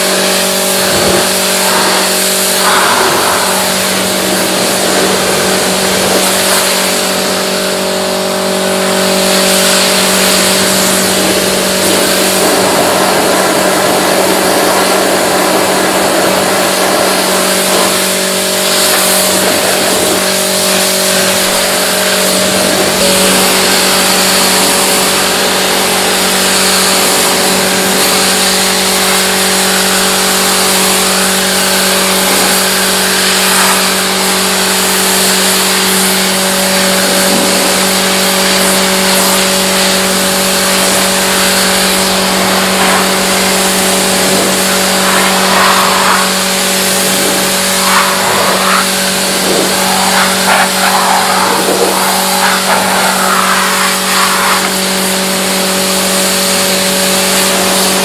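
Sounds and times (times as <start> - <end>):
high-pressure water jet hissing: 0.0 - 58.0
pressure washer pump humming: 0.0 - 58.0.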